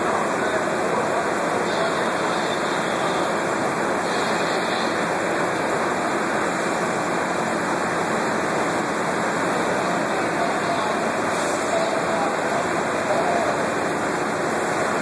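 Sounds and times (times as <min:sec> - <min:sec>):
subway station rushing noise: 0:00.0 - 0:15.0.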